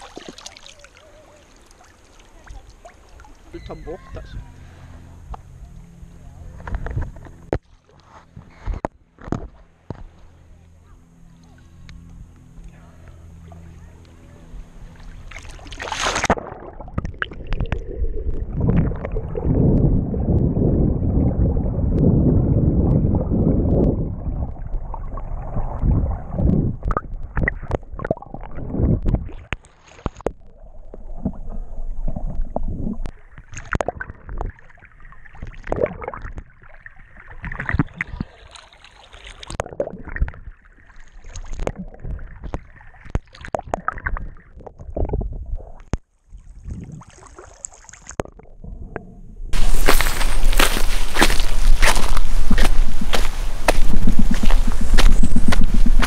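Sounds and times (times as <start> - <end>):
water gurgling: 0.0 - 4.6, 14.8 - 56.0
muffled underwater churning: 0.0 - 56.0.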